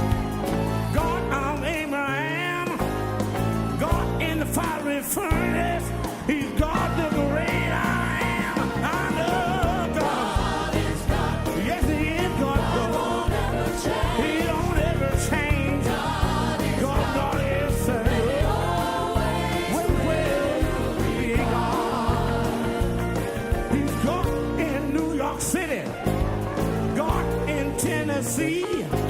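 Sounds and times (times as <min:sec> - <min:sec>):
band drums and bass: 0:00.0 - 0:01.9, 0:02.6 - 0:29.0.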